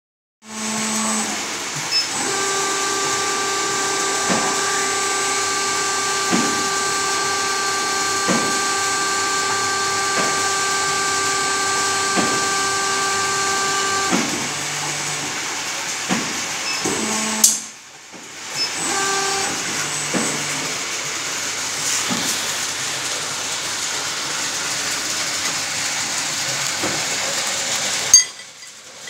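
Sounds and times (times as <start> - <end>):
machine whine and hiss: 0.5 - 28.1.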